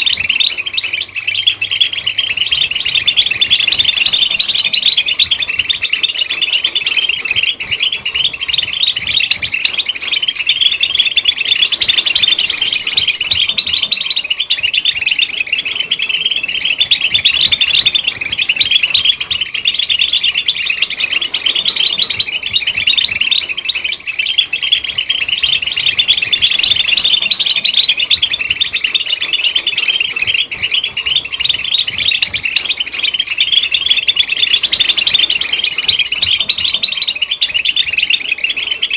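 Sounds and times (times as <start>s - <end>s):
finch twittering chirps and trills: 0.0s - 38.9s.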